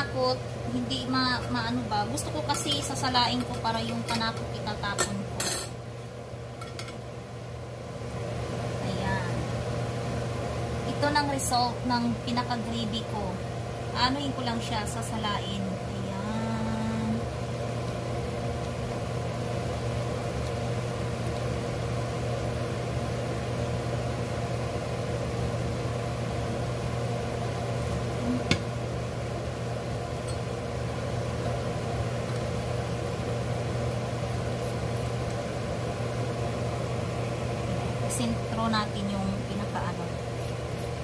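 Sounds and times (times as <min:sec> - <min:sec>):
low mechanical motor hum: 0:00.0 - 0:41.0.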